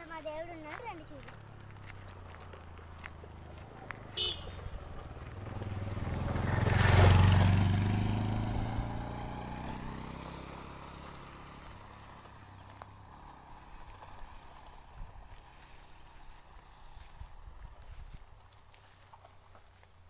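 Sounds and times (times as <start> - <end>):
vehicle engine passing by: 0.0 - 19.9.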